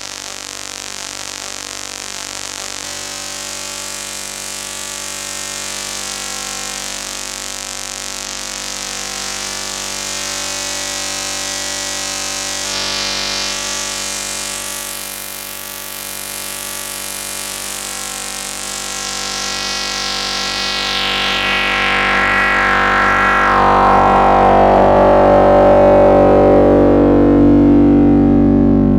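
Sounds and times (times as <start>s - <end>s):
synthesizer drone buzzing: 0.0s - 28.9s.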